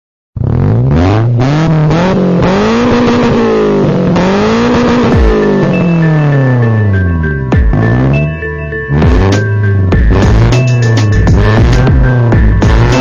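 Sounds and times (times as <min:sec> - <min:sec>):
car engine revving: 0:00.4 - 0:13.0.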